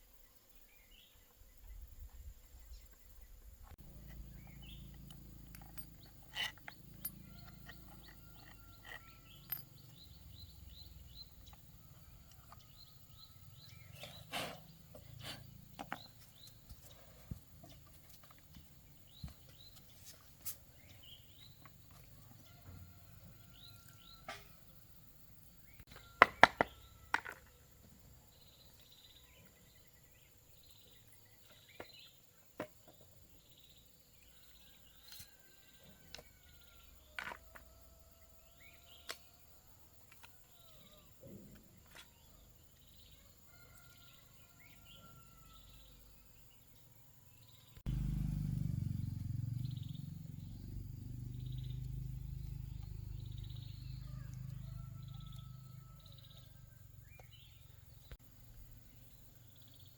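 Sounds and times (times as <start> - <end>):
birds chirping: 0.4 - 39.6, 40.2 - 59.9.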